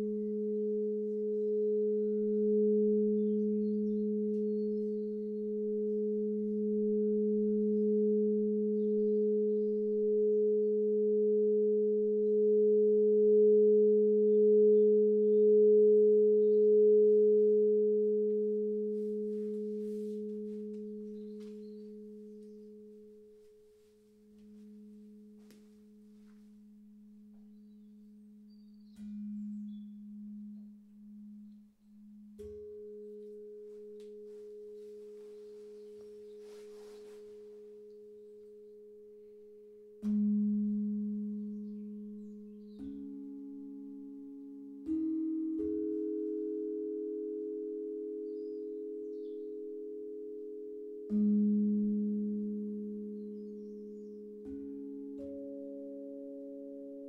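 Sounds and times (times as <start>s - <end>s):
pure steady tones: 0.0s - 57.0s
soft low tone: 0.0s - 57.0s.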